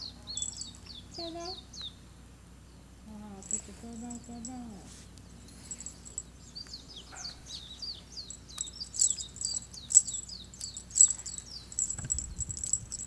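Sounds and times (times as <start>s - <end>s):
small songbirds chirping and twittering: 0.0s - 13.0s.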